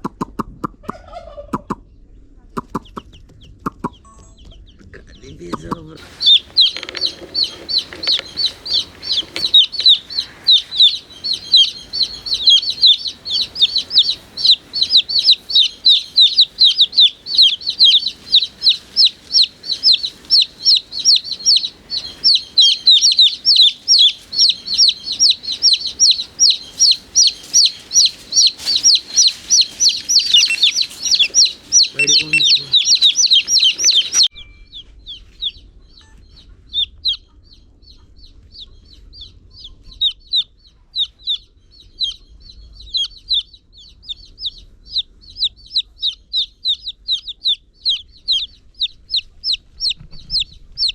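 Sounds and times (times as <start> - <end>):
chicks peeping: 2.6 - 50.9.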